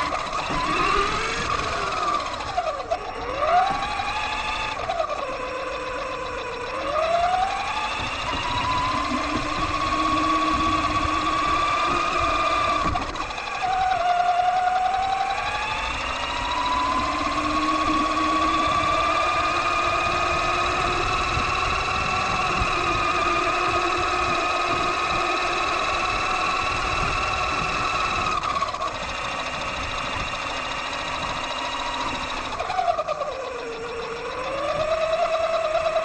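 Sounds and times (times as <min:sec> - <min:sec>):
electric motor and gears whining: 0:00.0 - 0:36.0.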